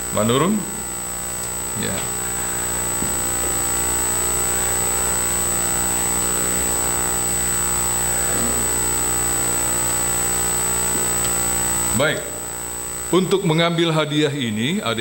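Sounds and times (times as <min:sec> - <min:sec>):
electrical hum and hiss: 0:00.0 - 0:15.0
thin high whine: 0:00.0 - 0:15.0.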